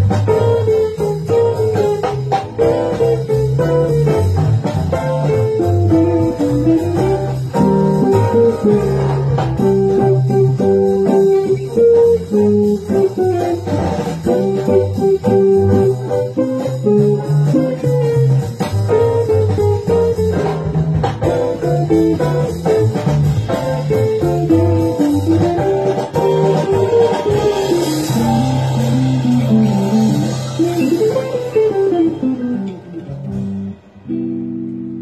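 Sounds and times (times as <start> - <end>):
solo guitar melody: 0.0 - 35.0.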